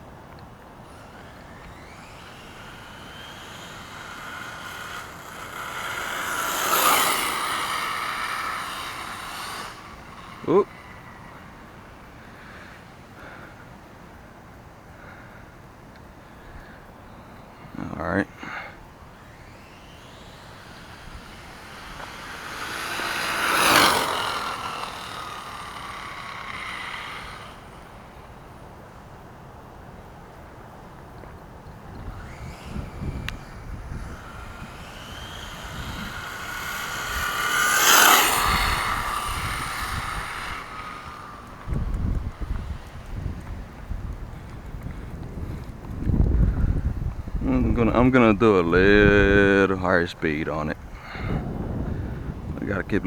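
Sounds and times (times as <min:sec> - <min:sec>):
toy truck motor whine: 0:00.0 - 0:52.3.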